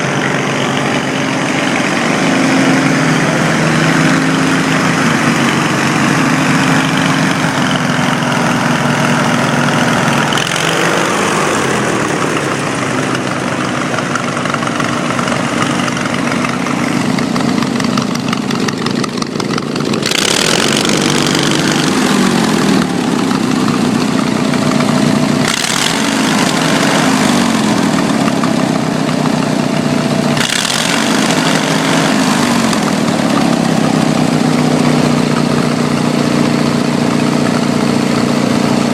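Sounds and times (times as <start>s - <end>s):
twin-cylinder engine running: 0.0s - 38.9s.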